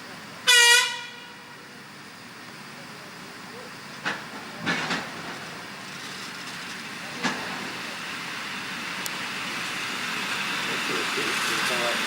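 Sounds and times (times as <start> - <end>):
train rolling rumble: 0.0 - 12.0.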